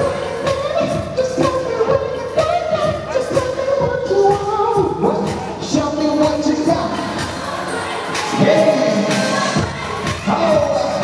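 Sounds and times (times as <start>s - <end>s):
live pop music with singing: 0.0s - 11.0s.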